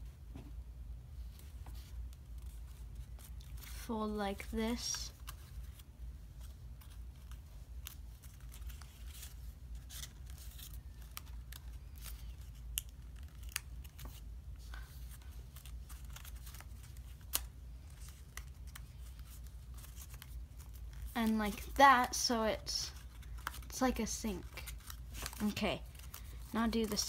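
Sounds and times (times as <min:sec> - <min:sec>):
paper being creased and folded: 0:01.4 - 0:21.8, 0:22.9 - 0:27.0.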